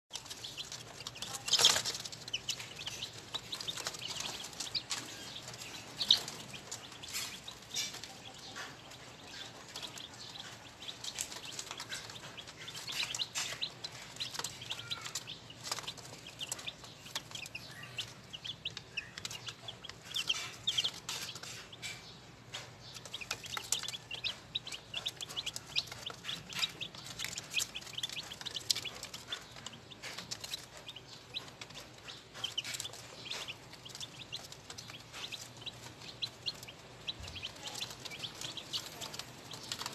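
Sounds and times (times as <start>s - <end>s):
chicks peeping: 0.1s - 39.9s.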